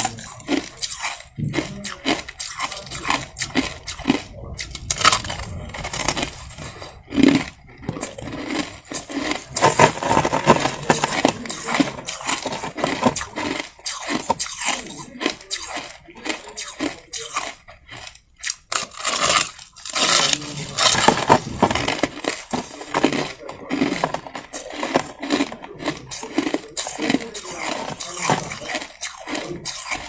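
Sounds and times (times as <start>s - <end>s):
crushed ice being chewed: 0.0s - 30.0s.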